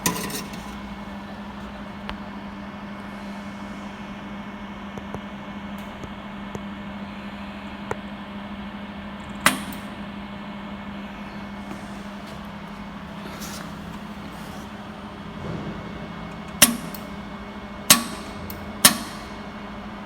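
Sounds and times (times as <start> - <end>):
machine low hum: 0.0 - 20.0.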